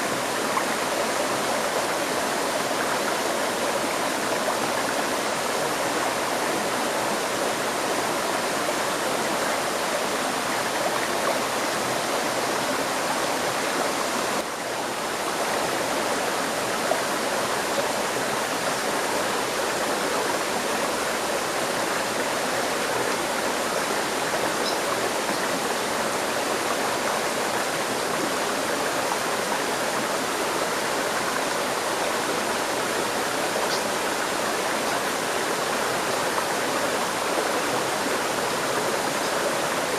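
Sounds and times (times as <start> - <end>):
river stream flowing: 0.0 - 39.9.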